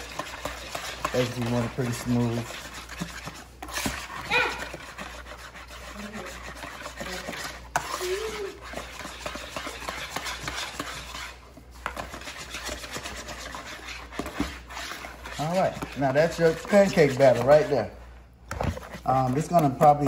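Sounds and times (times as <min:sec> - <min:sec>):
whisk beating batter in bowl: 0:00.0 - 0:20.0.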